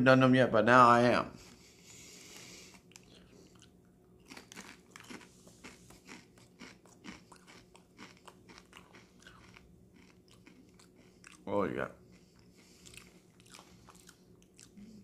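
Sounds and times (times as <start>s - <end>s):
person chewing crisp chips: 1.4s - 15.0s.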